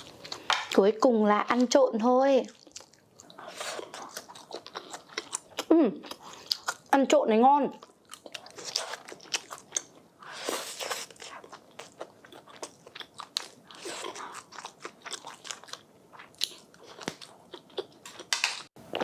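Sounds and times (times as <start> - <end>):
close chewing and crunching: 0.0 - 0.8, 1.5 - 7.0, 7.7 - 19.0.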